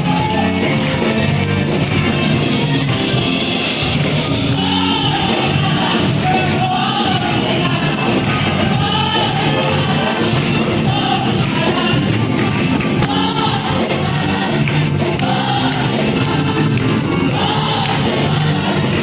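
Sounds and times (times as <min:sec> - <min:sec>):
choir singing gospel music: 0:00.0 - 0:19.0.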